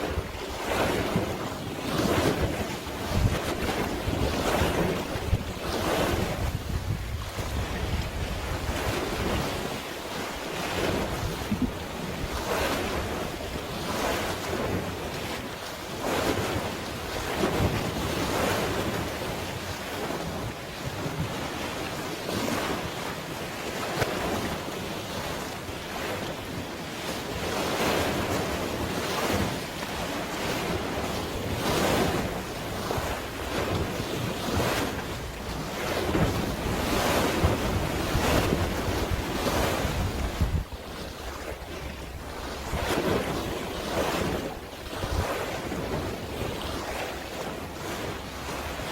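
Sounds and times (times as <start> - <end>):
wind buffeting microphone: 0.0 - 22.9, 23.8 - 48.9
waves splashing: 0.0 - 48.9.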